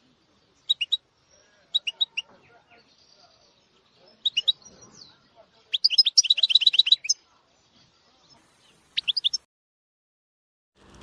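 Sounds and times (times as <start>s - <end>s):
songbird chirping and trilling: 0.0s - 9.5s.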